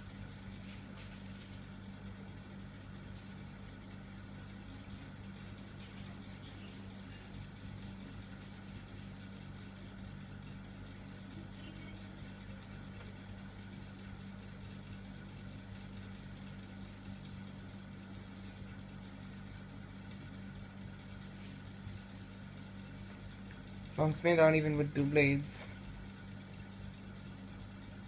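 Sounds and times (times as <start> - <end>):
ceiling fan motor hum: 0.0 - 28.0.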